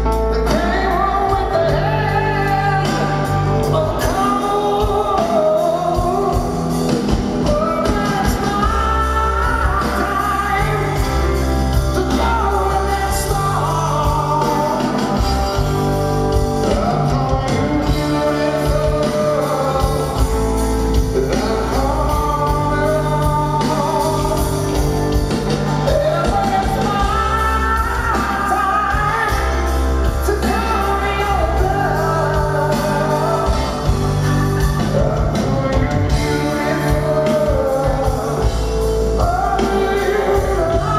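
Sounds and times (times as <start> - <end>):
live rock band: 0.0 - 40.9
man singing: 0.0 - 40.9.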